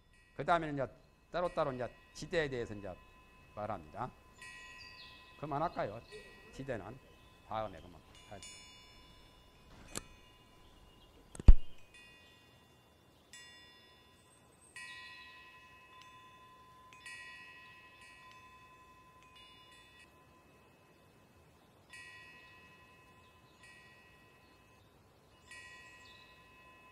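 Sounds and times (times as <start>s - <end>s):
faint chimes ringing: 0.0s - 26.9s.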